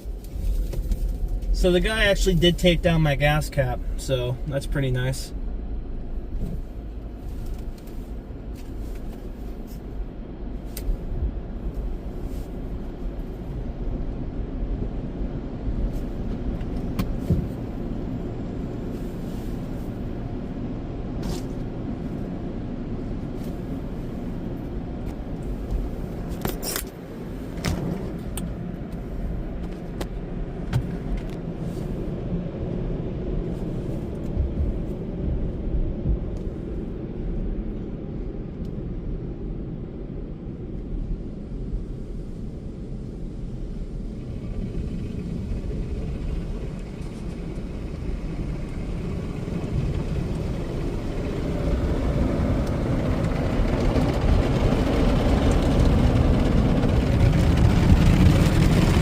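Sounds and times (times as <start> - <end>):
low rumble inside a car: 0.0 - 59.0.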